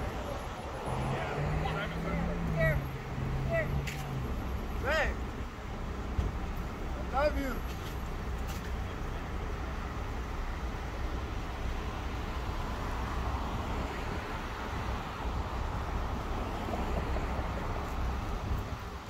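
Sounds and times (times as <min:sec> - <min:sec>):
low rumble of vehicles: 0:00.0 - 0:19.0.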